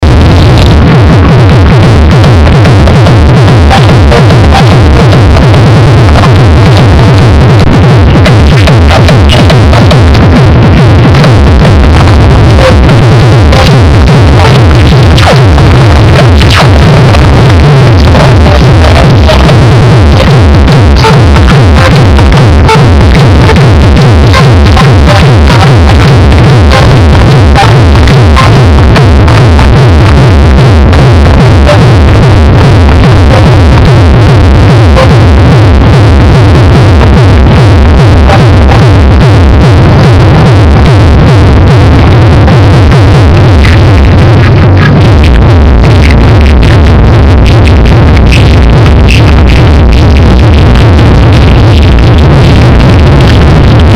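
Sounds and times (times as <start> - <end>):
bass-heavy electronic dance music: 0.0 - 53.9.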